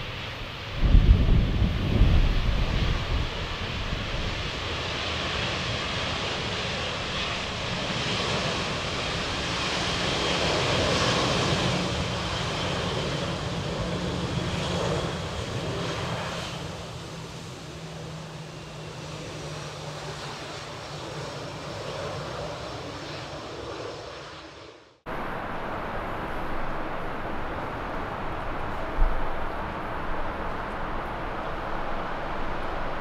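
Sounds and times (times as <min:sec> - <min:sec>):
airliner engines passing: 0:00.0 - 0:33.0.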